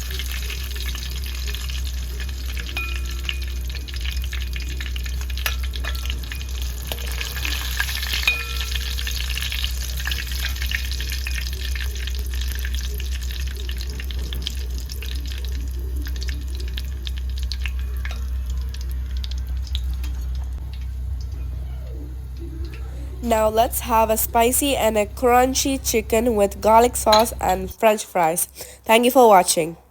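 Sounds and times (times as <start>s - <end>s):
chicken deep-frying in oil: 0.0s - 27.8s
low steady hum: 0.0s - 29.9s.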